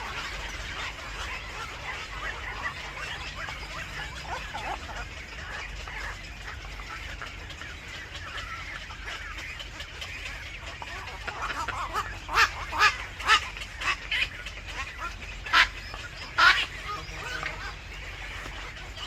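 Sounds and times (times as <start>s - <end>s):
birds chirping: 0.0s - 19.0s
sharp loud bird calls: 0.0s - 19.0s.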